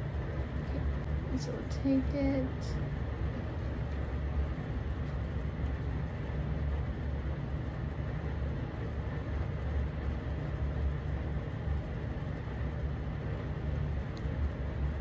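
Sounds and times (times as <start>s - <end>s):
machine rumble with hiss: 0.0s - 15.0s.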